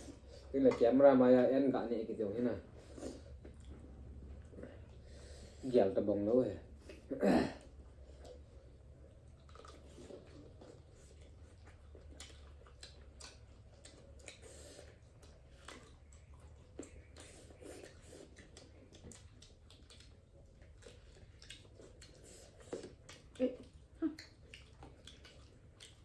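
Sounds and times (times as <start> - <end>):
person chewing food: 2.7 - 5.6, 6.7 - 26.0.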